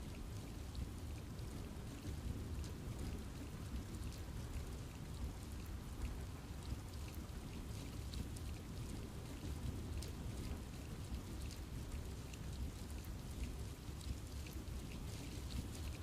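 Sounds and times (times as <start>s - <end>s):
raindrops pattering on leaves: 0.0s - 16.0s.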